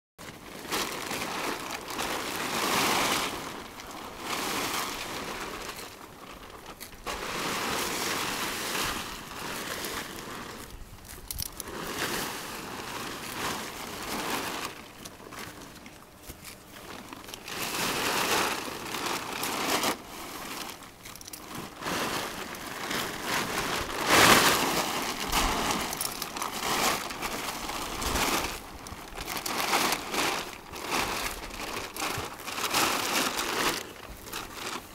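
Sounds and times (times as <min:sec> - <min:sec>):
plastic tarp crinkling: 0:00.2 - 0:34.9.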